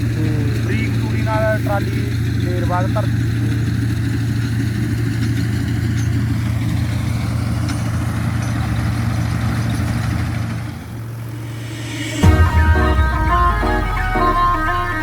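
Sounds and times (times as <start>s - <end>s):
diesel tractor engine droning: 0.0s - 15.0s.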